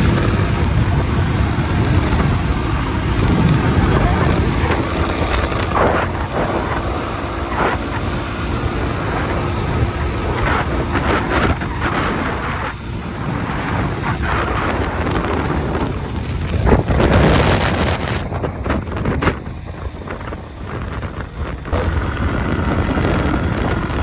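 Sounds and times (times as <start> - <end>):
motorcycle riding: 0.0 - 24.0
wind buffeting microphone: 0.0 - 24.0.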